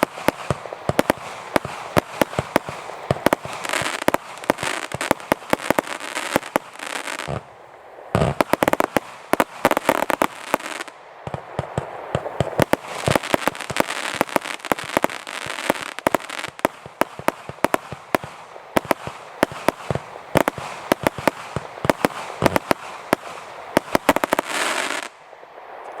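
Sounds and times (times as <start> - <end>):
firework cake bangs: 0.0 - 7.5, 11.3 - 24.7
firework crackling: 0.0 - 25.9.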